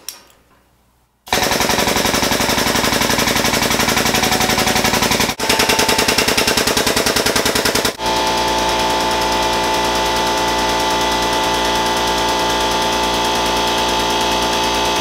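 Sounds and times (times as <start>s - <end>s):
air pump chattering: 1.3s - 15.0s.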